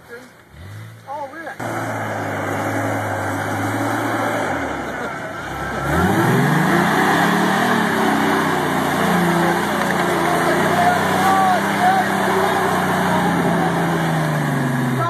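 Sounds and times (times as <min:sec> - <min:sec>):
truck engine revving: 0:00.5 - 0:15.0.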